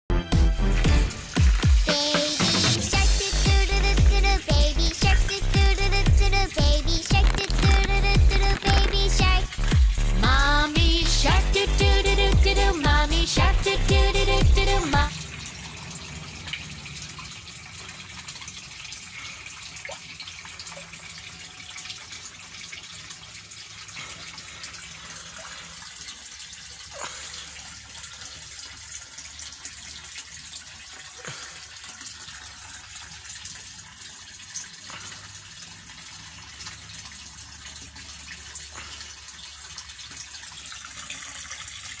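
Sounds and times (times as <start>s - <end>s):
water splashing and trickling: 0.3s - 42.0s.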